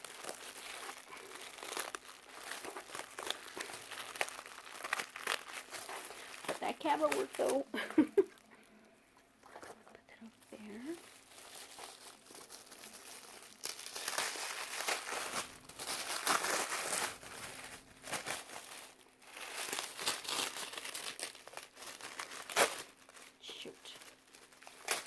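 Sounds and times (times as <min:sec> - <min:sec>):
wrapping paper crinkling: 0:00.0 - 0:25.0.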